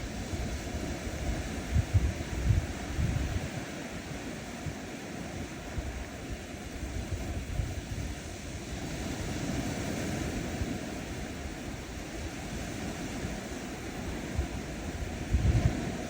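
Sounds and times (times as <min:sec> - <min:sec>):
ocean waves on sandy beach: 0:00.0 - 0:16.0.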